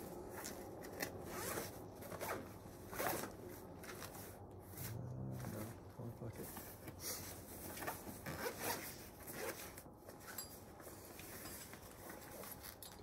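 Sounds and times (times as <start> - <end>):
cloth rustling and rubbing: 0.0 - 13.0.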